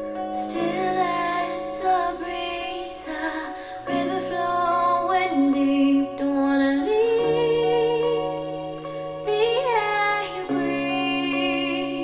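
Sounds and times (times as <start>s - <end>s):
pop song with female singer: 0.0s - 12.0s.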